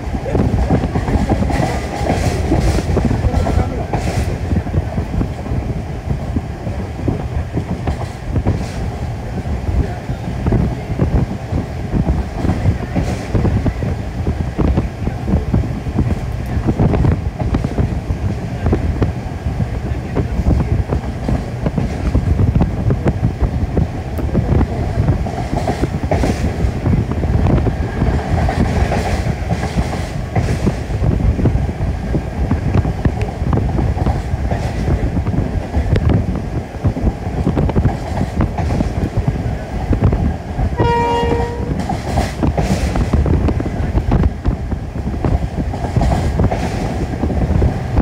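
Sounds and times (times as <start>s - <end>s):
rail joint clicks: 0.0s - 48.0s
train wheels rumbling on track: 0.0s - 48.0s.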